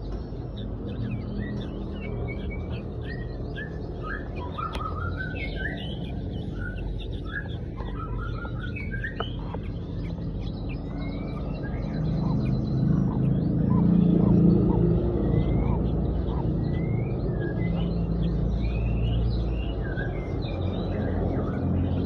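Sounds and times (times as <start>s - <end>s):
low hum: 0.0s - 22.0s
young birds chirping: 0.0s - 22.0s.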